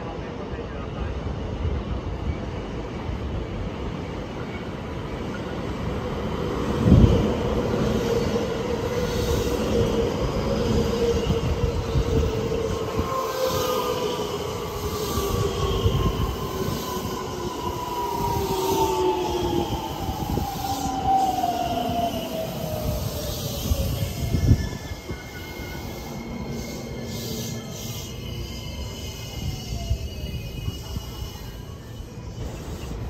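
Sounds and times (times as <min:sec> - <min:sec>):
electric train braking: 0:05.4 - 0:33.0.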